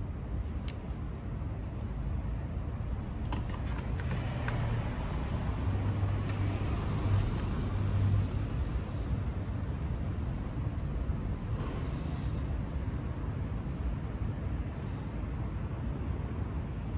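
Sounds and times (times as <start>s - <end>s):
outdoor traffic noise: 0.0s - 16.9s.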